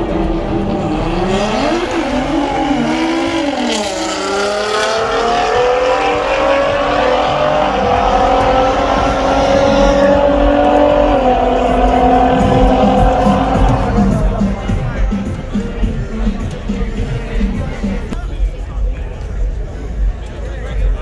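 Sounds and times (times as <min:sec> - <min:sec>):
race car engines accelerating: 0:00.0 - 0:18.2.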